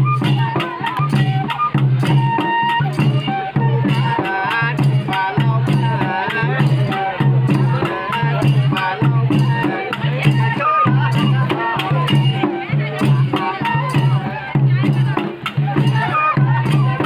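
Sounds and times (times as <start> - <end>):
barrel drum beat: 0.0 - 17.0.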